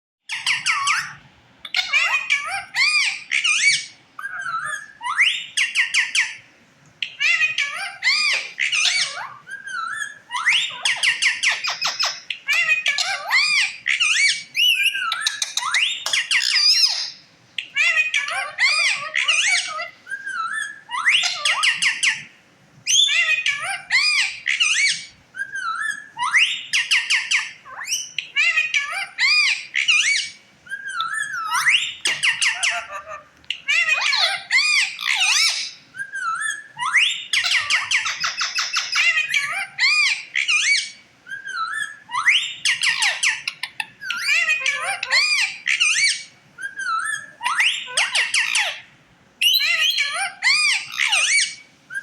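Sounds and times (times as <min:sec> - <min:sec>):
parrot chattering: 0:00.3 - 0:06.4, 0:07.0 - 0:22.3, 0:22.9 - 0:52.0.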